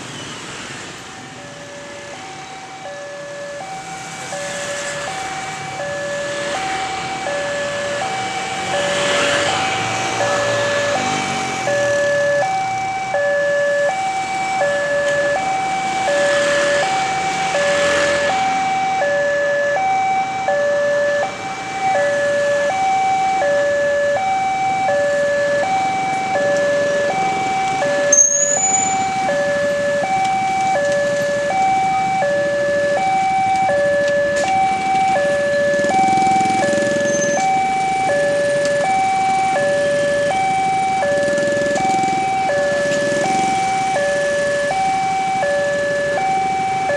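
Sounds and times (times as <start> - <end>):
level crossing alarm chime: 1.4 - 9.2, 10.2 - 46.9.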